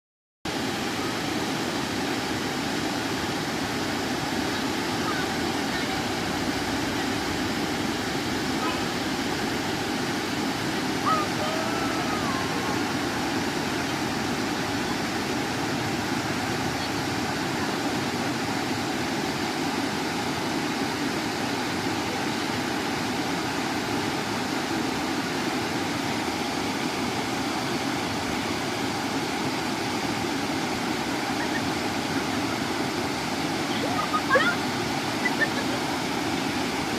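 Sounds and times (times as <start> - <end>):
waterfall rushing: 0.5 - 36.9.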